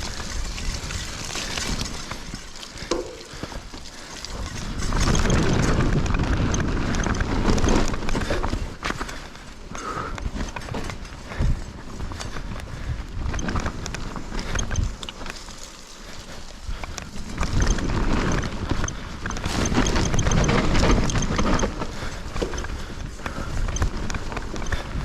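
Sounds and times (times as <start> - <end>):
bike frame and chain rattling: 0.0 - 25.0
tyres rushing on dirt: 0.0 - 25.0.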